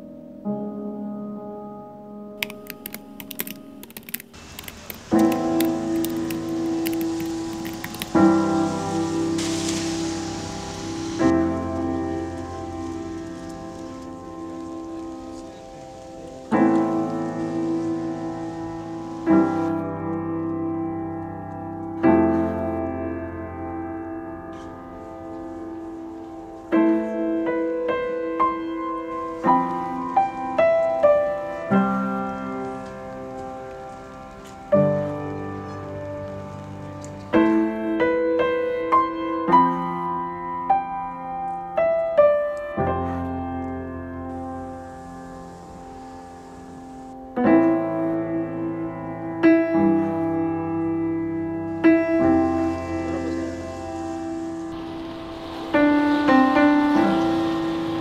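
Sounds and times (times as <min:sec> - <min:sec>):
solo piano music: 0:00.0 - 0:58.0.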